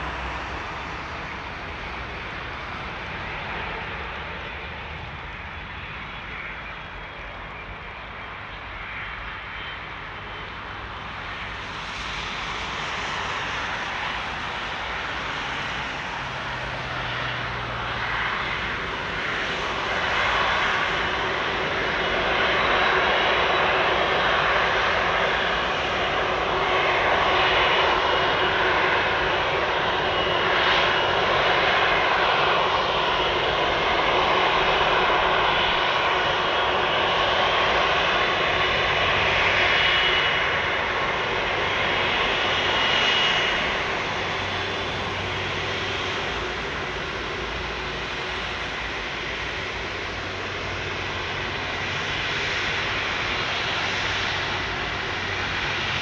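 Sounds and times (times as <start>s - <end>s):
faint high engine whine: 0.0s - 56.0s
jet engines taxiing: 0.0s - 56.0s.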